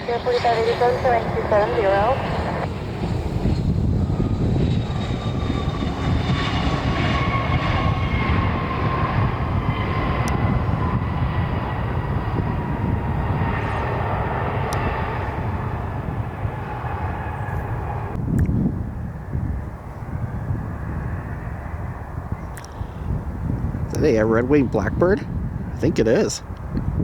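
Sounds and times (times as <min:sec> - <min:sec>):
jet airliner engines passing: 0:00.0 - 0:27.0.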